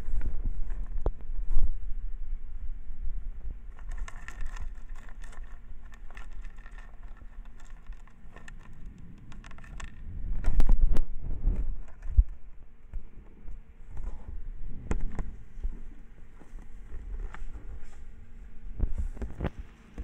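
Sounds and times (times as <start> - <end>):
fine crackles and clicks: 0.0 - 1.8, 3.4 - 20.0.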